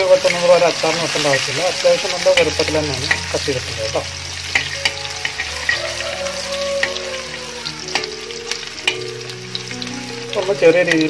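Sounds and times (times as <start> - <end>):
ginger sizzling in oil: 0.0 - 11.0.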